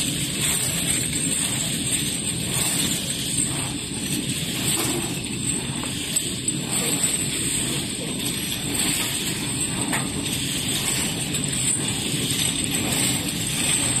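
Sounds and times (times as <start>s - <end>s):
filling machine mechanical din: 0.0s - 14.0s.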